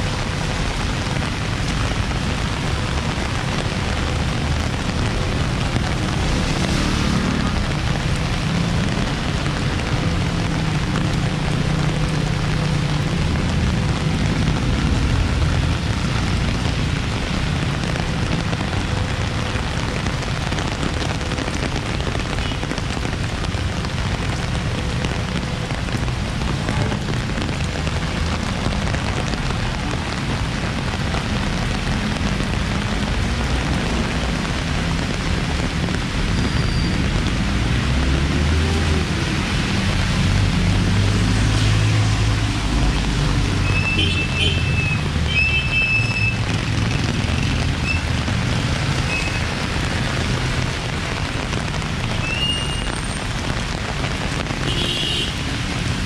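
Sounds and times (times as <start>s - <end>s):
heavy rain on street: 0.0s - 56.0s
traffic engines rumbling: 0.0s - 56.0s.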